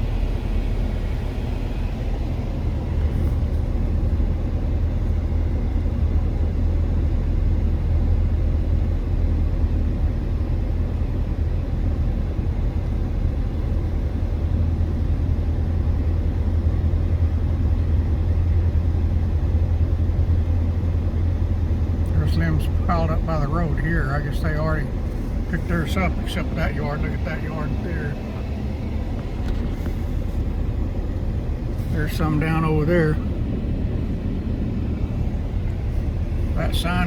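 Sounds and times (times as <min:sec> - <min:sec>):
truck engine and tyre rumble: 0:00.0 - 0:37.0.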